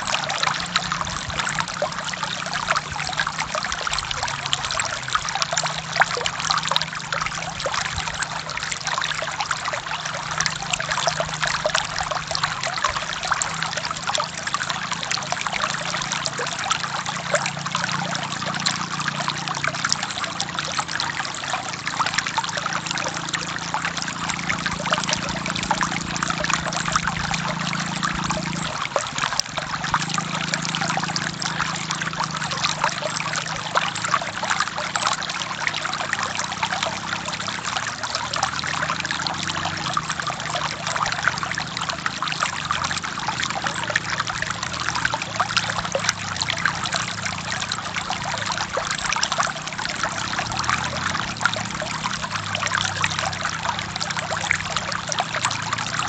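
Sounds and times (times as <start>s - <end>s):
deep water gurgle: 0.0s - 56.0s
stream flowing: 0.0s - 56.0s.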